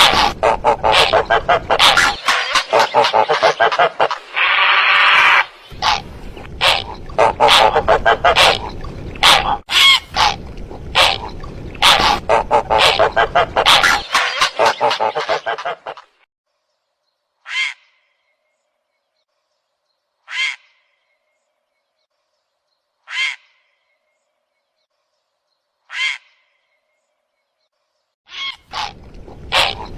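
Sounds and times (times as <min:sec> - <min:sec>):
recorded bird calls: 0:00.0 - 0:16.2, 0:17.2 - 0:29.9.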